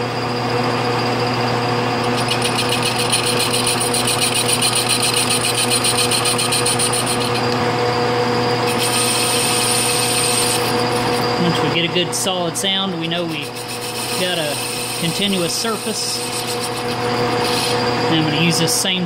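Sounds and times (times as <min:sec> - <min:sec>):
metal lathe running: 0:00.0 - 0:19.0.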